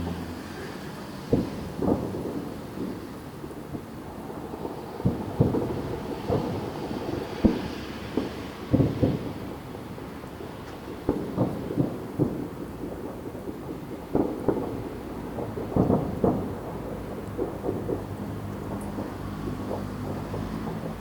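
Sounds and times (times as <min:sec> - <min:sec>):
fireworks booming and popping: 0:00.5 - 0:21.0.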